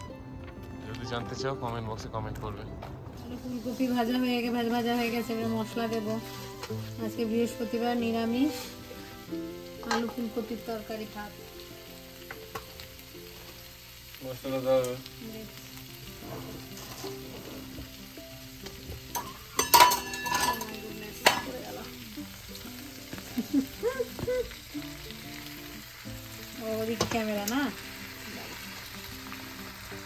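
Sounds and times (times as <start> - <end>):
vegetables sizzling in a pan: 3.2 - 30.0.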